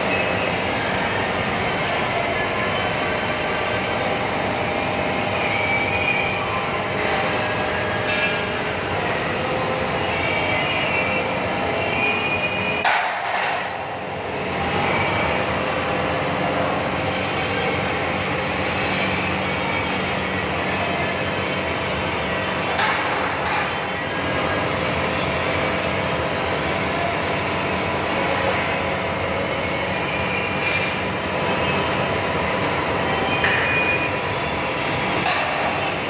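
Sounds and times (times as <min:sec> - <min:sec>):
metal fabrication machinery running: 0:00.0 - 0:36.0.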